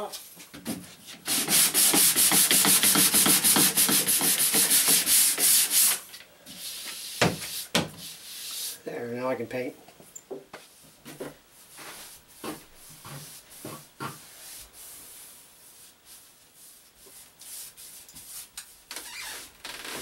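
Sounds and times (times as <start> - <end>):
paint roller rubbing on wall: 0.8 - 8.8, 10.6 - 20.0.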